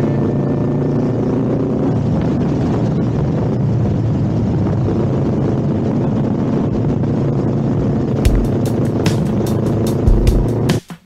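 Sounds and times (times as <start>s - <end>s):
wind buffeting microphone: 0.0s - 10.7s
motorcycle engine rumble: 0.0s - 10.9s.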